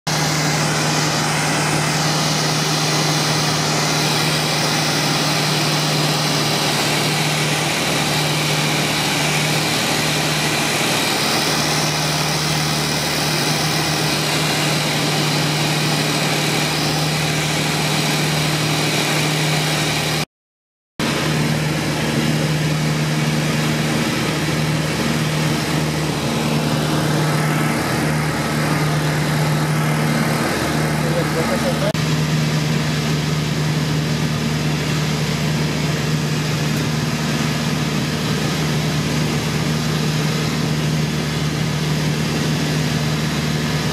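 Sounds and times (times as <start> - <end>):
light aircraft engine droning: 0.1 - 20.3, 21.0 - 43.9.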